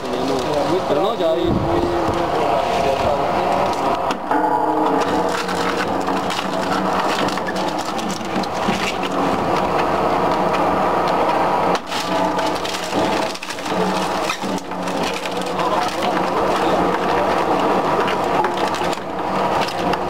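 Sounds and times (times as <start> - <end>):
machine hum: 0.0 - 20.0
shredder crushing branches: 0.0 - 20.0.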